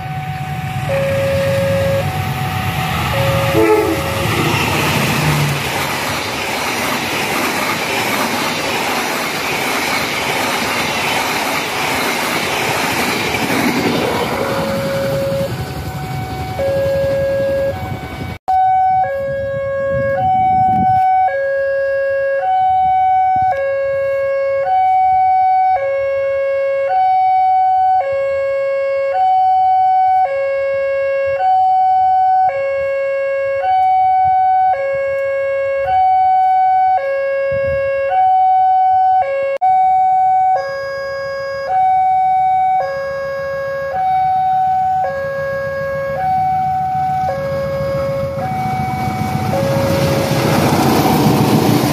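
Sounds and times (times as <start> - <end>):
two-tone crossing alarm: 0.0 - 5.8, 13.6 - 51.9.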